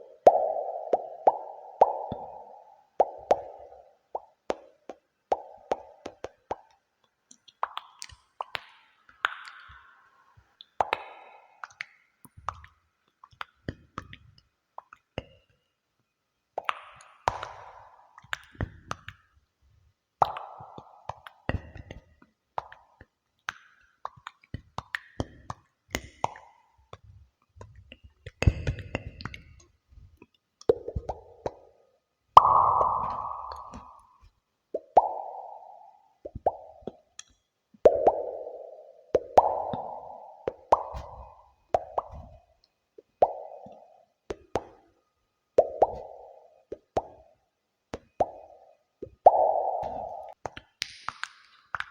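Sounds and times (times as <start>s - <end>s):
soft plops and clicks with echo: 0.0s - 15.6s, 16.6s - 19.4s, 20.2s - 45.0s, 45.6s - 51.9s.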